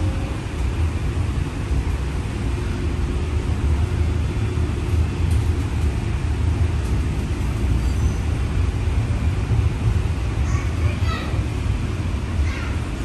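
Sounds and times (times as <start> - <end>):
streetcar rumbling: 0.0 - 13.0.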